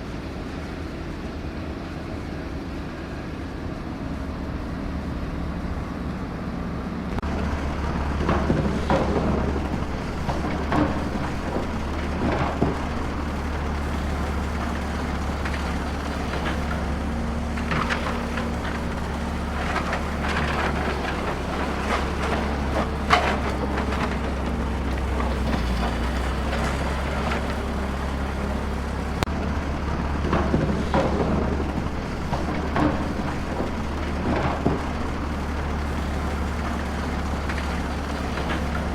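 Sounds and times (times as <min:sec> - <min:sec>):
digging machinery engine rumble: 0:00.0 - 0:38.9
rock and soil clattering: 0:07.2 - 0:38.9.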